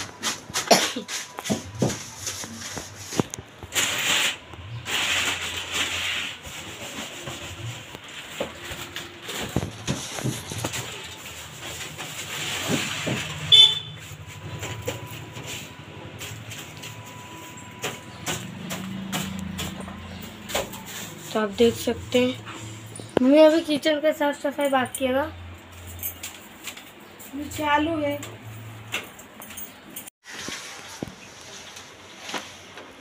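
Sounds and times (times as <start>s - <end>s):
broom brushing and scraping: 0.0s - 23.7s, 30.2s - 33.0s.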